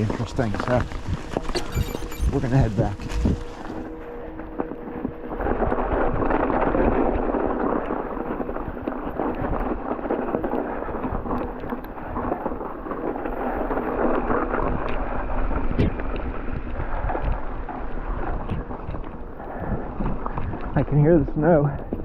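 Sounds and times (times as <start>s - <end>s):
bike tyres crunching through snow: 0.0s - 22.0s.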